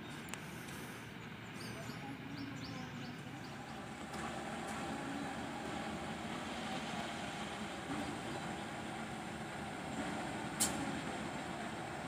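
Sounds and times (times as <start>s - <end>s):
distant diesel locomotive running: 0.0s - 12.0s.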